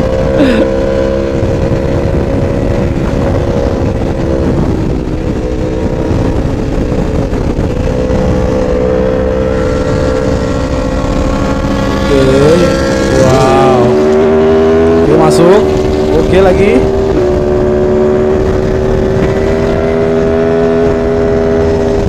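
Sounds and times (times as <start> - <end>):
motorcycle engine at high revs: 0.0 - 22.0
wind rush on microphone: 0.0 - 22.0.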